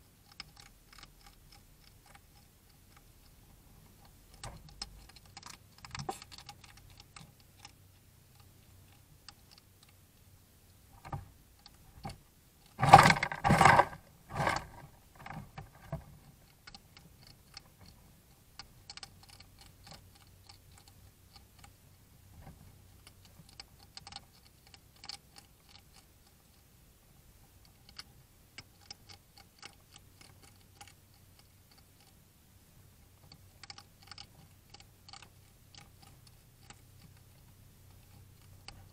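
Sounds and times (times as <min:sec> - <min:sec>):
hedgehogs crunching food: 0:00.0 - 0:10.0, 0:11.0 - 0:26.8, 0:27.5 - 0:32.2, 0:33.2 - 0:38.9.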